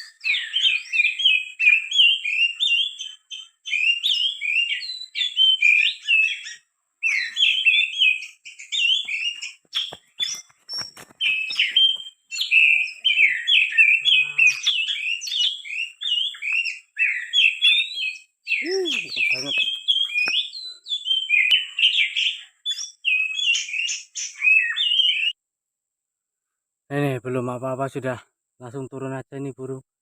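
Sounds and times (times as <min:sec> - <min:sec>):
bird chirping and whistling: 0:00.0 - 0:25.4.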